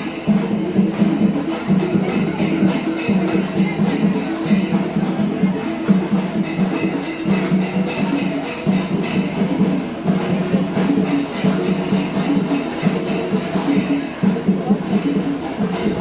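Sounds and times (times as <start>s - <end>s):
drums beating: 0.0s - 16.0s
hand cymbals clashing: 0.0s - 16.0s.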